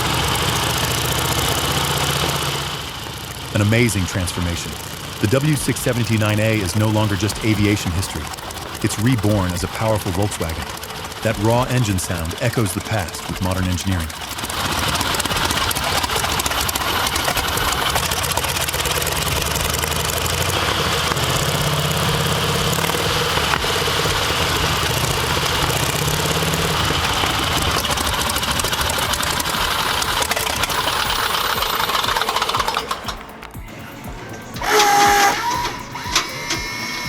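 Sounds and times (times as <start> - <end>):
aircraft engine running: 0.0 - 37.0.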